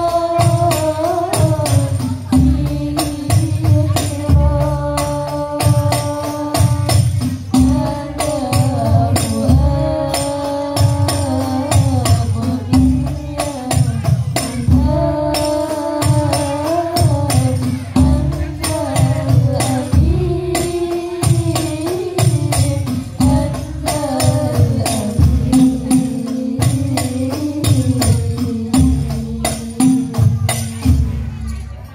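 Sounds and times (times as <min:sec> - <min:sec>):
women singing: 0:00.0 - 0:30.3
frame drums beating: 0:00.0 - 0:31.6.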